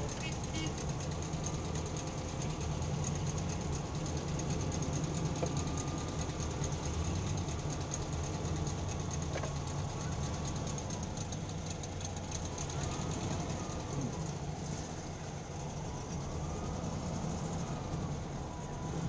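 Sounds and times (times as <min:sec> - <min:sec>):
engines idling low rumble: 0:00.0 - 0:19.0.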